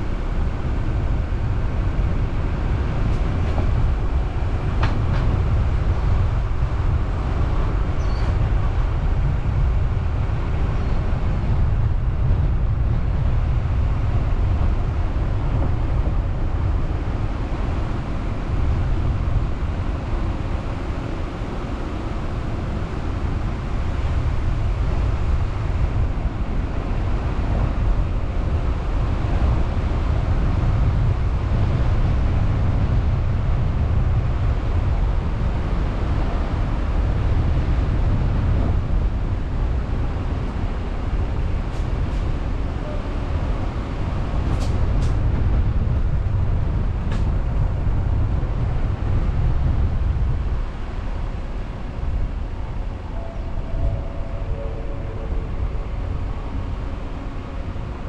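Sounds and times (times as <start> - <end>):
car road and wind rumble: 0.0 - 58.0.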